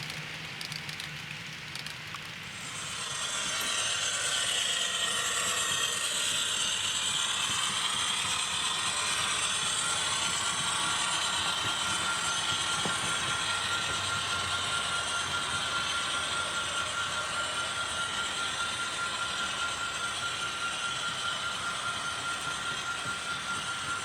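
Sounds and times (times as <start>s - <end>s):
train running by: 0.0s - 24.0s.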